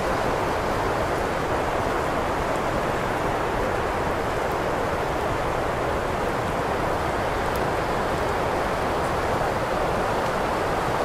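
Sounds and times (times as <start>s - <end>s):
wind blowing steadily: 0.0s - 11.0s.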